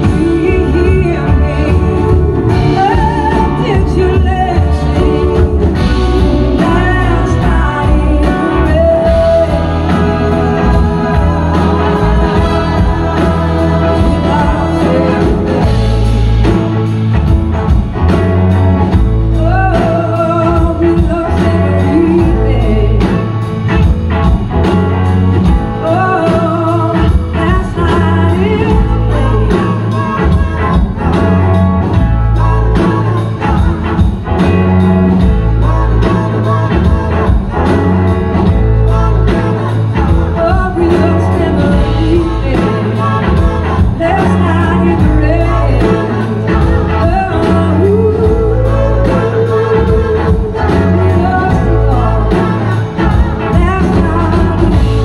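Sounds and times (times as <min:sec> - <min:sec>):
woman singing: 0:00.0 - 0:16.7, 0:18.8 - 0:23.6, 0:25.4 - 0:55.0
blues-rock band playing live: 0:00.0 - 0:55.0.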